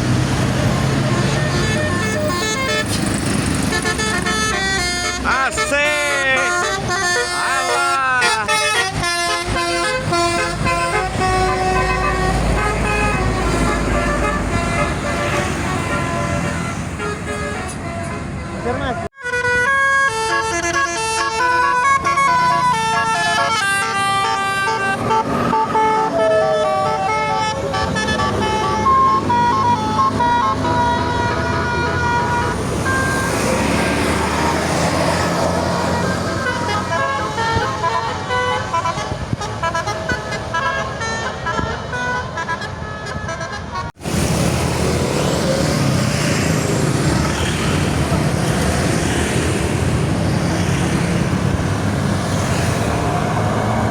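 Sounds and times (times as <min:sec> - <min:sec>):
multi-tone bus horn melody: 0:00.0 - 0:44.2, 0:47.2 - 0:53.9
bus engine and road noise: 0:00.0 - 0:53.9.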